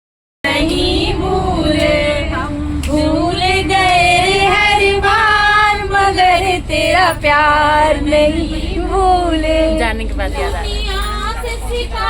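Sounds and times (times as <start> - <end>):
woman singing: 0.5 - 12.0.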